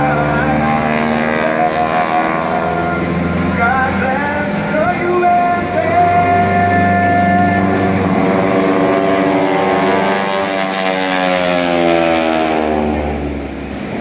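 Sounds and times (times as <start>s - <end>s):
aircraft passing overhead: 0.0s - 14.0s.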